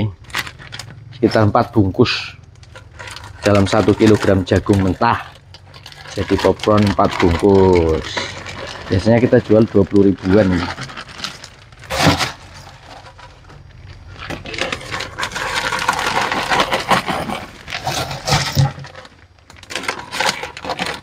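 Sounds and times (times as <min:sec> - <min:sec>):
popcorn poured into plastic bag: 0:00.1 - 0:13.3, 0:14.1 - 0:21.0.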